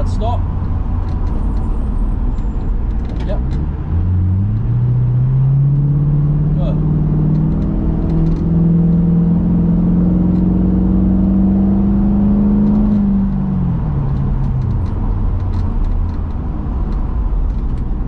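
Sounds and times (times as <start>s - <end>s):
car engine revving: 0.0s - 18.0s
road noise: 0.0s - 18.0s.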